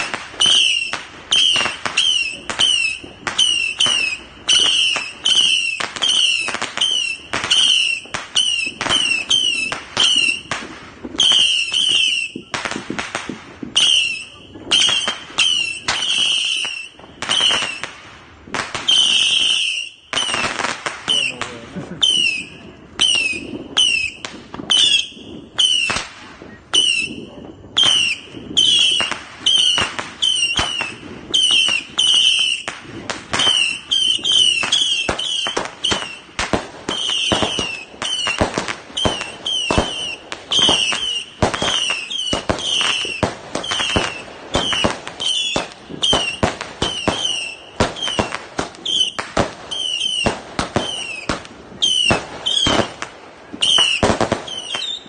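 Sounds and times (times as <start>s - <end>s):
fireworks reports with whistles: 0.0s - 55.0s.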